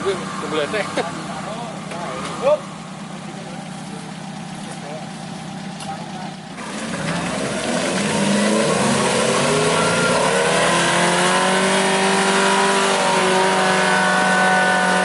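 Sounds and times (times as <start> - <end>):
jeep engine revving: 0.0 - 15.0.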